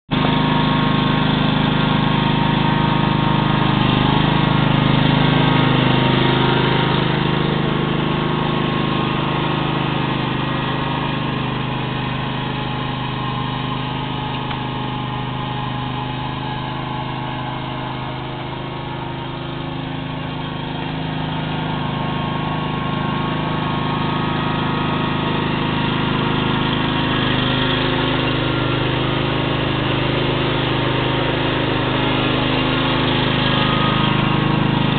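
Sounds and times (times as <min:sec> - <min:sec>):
lawn mower engine running: 0:00.0 - 0:34.9.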